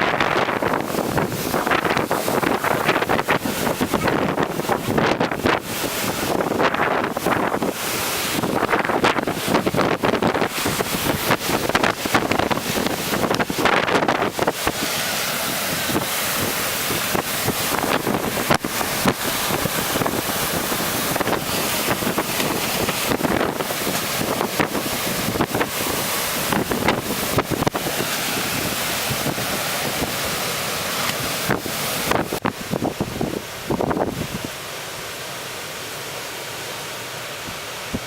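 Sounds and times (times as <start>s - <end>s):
wind buffeting microphone: 0.0s - 34.6s.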